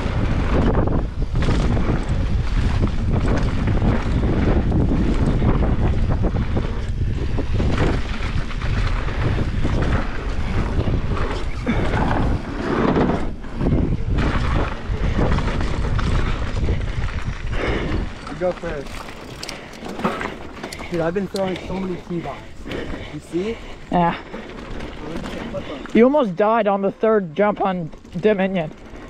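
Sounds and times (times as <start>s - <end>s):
bike tyres rolling on dirt: 0.0s - 29.0s
wind buffeting microphone: 0.0s - 29.0s.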